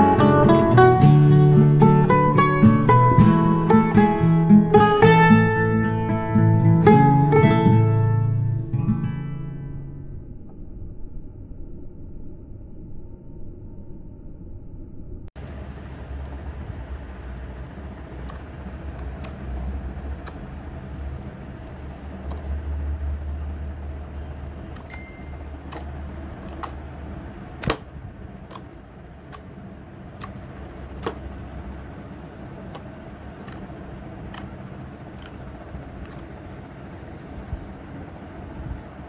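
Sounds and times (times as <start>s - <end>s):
low rumble: 5.4s - 39.0s.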